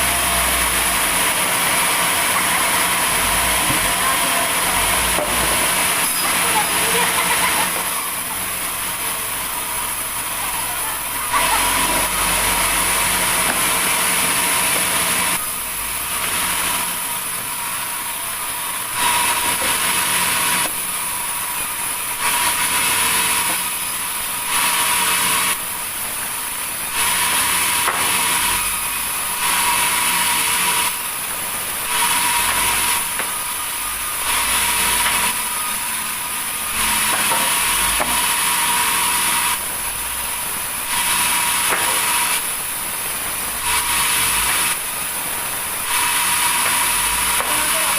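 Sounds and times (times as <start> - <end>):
saw cutting through wood: 0.0 - 47.9.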